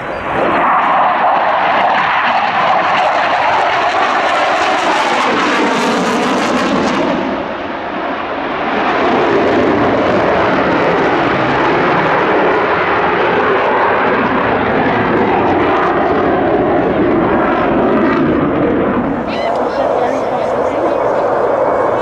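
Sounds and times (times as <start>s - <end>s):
airplane engine rushing: 0.0s - 22.0s.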